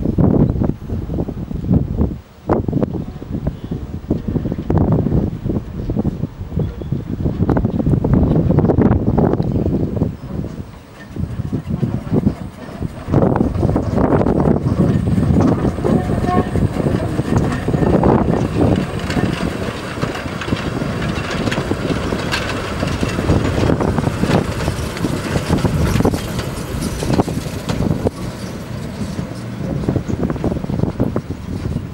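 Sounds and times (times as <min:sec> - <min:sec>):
steam locomotive running past: 0:00.0 - 0:31.9
wheels clicking on track: 0:04.1 - 0:31.9.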